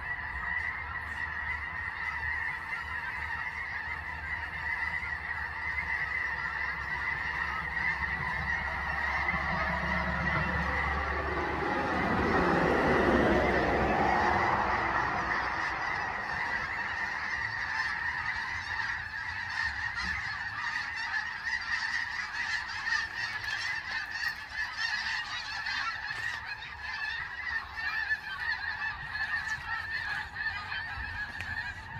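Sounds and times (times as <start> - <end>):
geese honking: 0.0 - 31.9.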